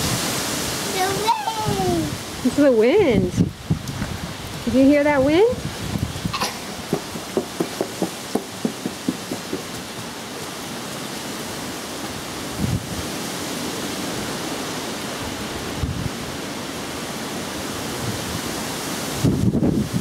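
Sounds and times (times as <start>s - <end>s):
storm wind and heavy rain: 0.0s - 20.0s.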